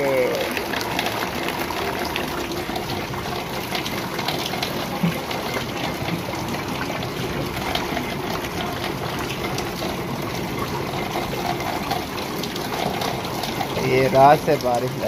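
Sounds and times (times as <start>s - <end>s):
rainwater splashing onto concrete: 0.0s - 15.0s
steady rain: 0.0s - 15.0s.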